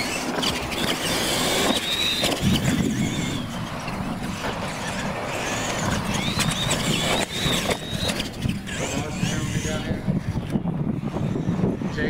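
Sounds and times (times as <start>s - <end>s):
toy truck motors whining: 0.0s - 12.0s
tyres rumbling on dirt: 0.0s - 12.0s.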